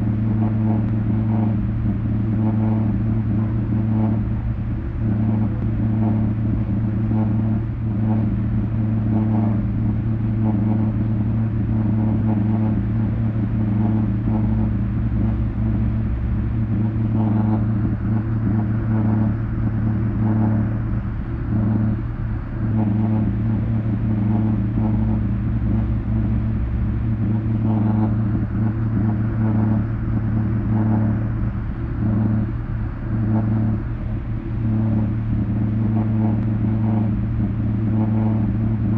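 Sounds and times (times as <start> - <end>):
faint pulsing: 0.0 - 38.9
loud low drone: 0.0 - 38.9.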